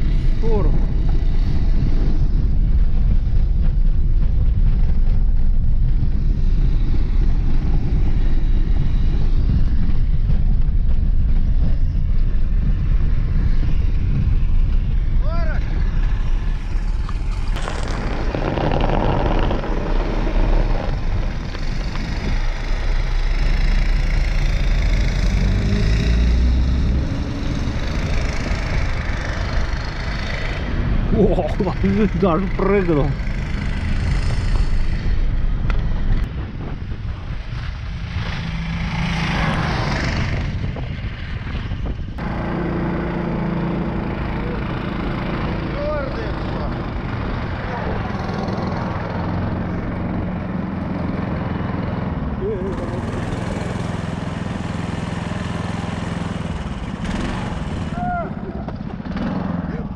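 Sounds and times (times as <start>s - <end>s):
snow vehicle engine running: 0.0s - 59.9s
wind rumble on microphone: 0.0s - 59.9s.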